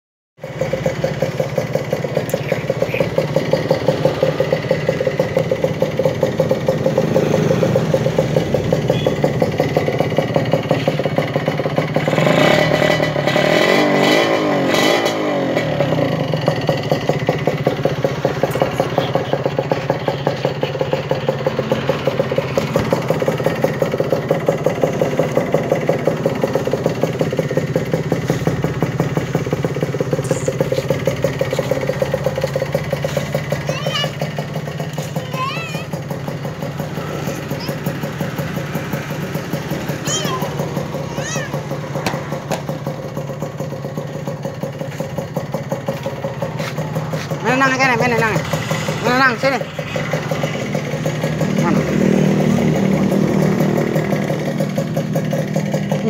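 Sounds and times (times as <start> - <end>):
motorcycle engine idling and revving: 0.4 - 56.0.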